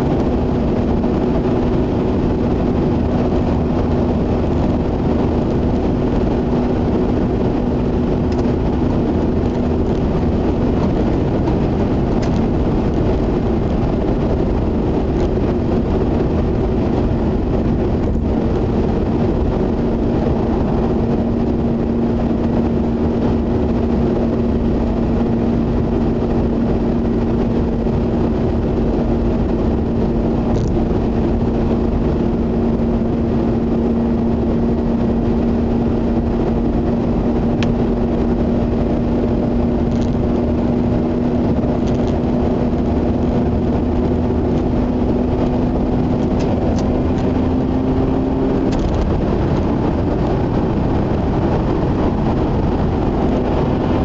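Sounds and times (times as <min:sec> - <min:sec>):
car engine hum: 0:00.0 - 0:54.0
tyre and road rumble: 0:00.0 - 0:54.0.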